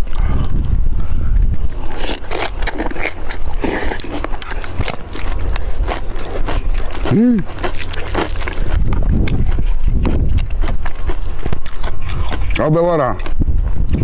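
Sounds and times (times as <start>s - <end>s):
crunching and chewing food: 0.0s - 14.0s
wind rumble on microphone: 0.0s - 14.0s.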